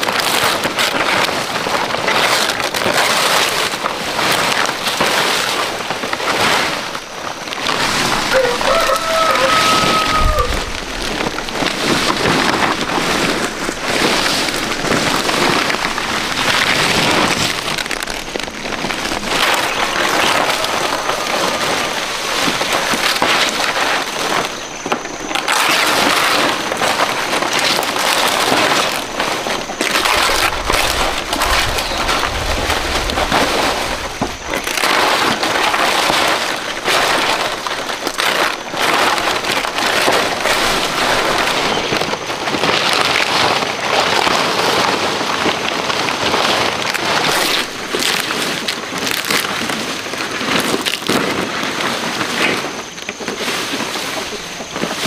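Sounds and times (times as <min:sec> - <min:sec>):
palm leaves rustling and crackling: 0:00.0 - 0:55.0.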